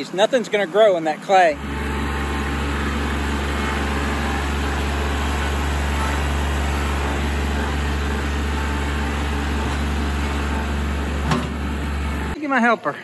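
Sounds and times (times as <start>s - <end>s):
tractor diesel engine running: 0.0s - 12.4s.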